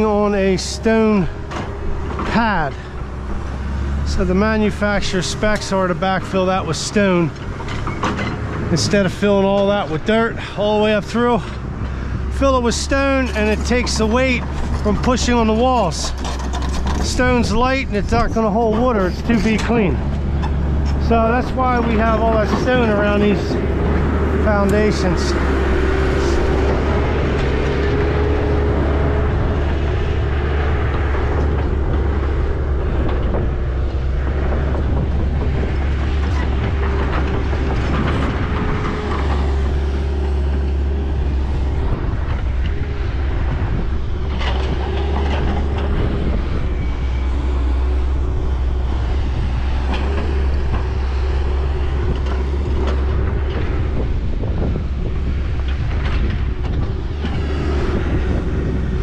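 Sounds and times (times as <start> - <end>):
diesel engine droning: 0.0 - 59.0
steady whine: 0.0 - 59.0.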